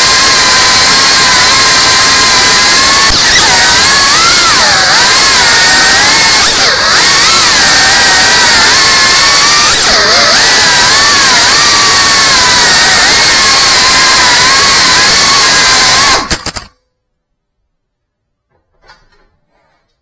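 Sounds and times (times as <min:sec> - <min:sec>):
drone motors whining: 0:00.0 - 0:16.7.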